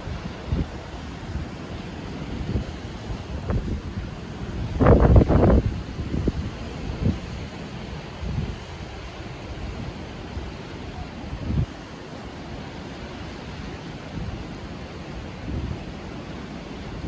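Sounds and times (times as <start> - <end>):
wind buffeting microphone: 0.0 - 11.9, 12.6 - 17.0
sea surf rushing: 0.0 - 17.0.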